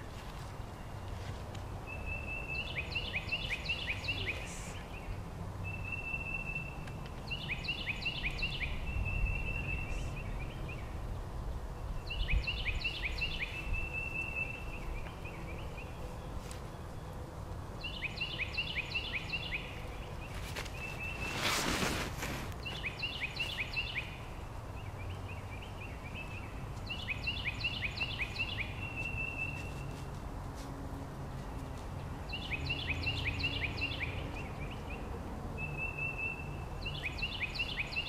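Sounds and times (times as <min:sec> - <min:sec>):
songbird singing: 0:00.0 - 0:30.2, 0:31.4 - 0:38.0.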